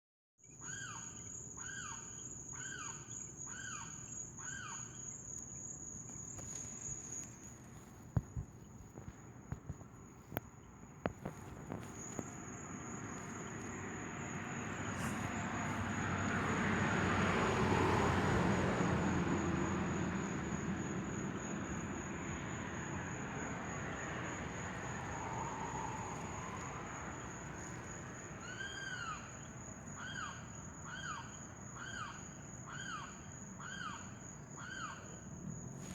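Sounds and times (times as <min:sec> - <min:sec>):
high-pitched insect trill: 0:00.5 - 0:07.9, 0:10.6 - 0:35.9.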